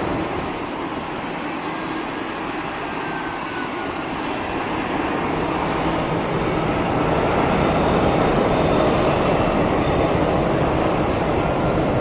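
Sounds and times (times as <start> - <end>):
jet engines on approach: 0.0 - 12.0.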